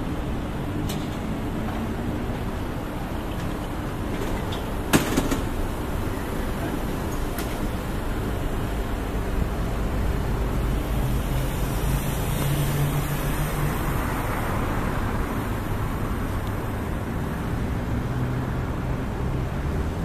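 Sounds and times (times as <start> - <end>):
steady hum of traffic: 0.0 - 20.0.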